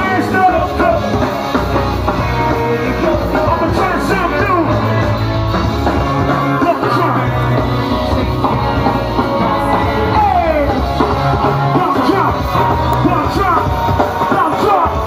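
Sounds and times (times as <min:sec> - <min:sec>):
bass line: 0:00.0 - 0:15.0
go-go music over sound system: 0:00.0 - 0:15.0
person singing: 0:00.0 - 0:15.0.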